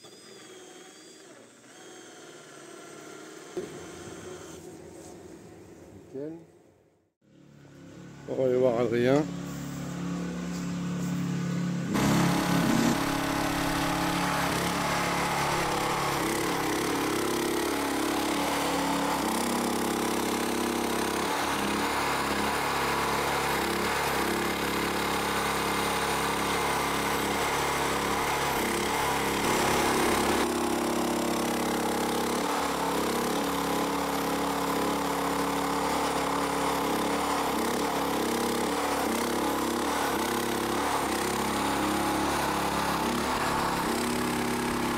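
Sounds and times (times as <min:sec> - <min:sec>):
small engine running: 0:07.4 - 0:44.9.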